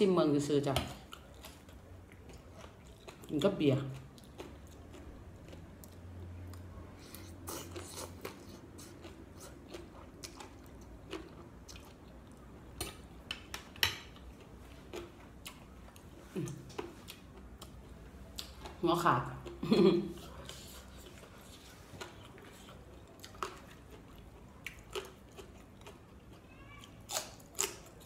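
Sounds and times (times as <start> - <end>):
person chewing wetly: 1.0 - 28.0.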